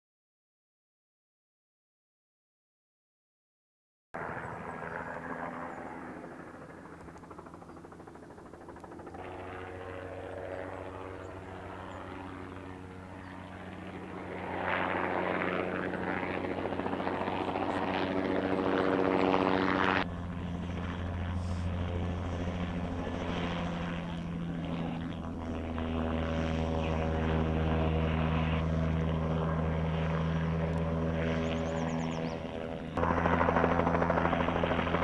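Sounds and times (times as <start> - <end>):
helicopter rotor beating: 4.2 - 35.0.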